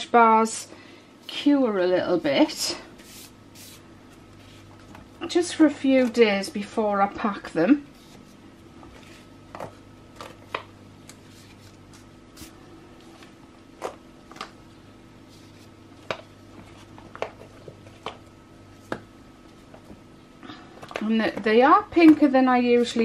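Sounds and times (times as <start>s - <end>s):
faint hum: 0.0s - 23.0s.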